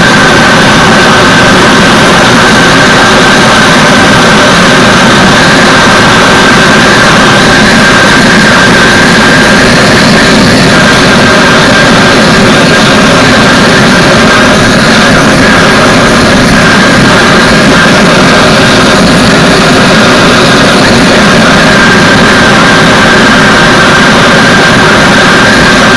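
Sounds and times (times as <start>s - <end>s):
gas burner roaring: 0.0s - 25.9s.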